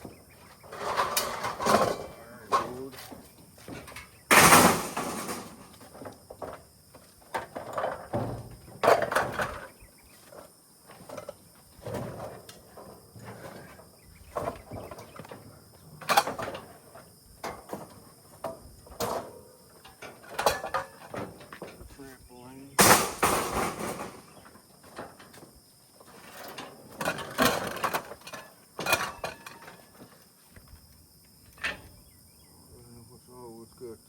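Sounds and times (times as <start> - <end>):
scrap metal clanking: 0.4 - 6.6, 7.3 - 22.0, 22.8 - 30.1.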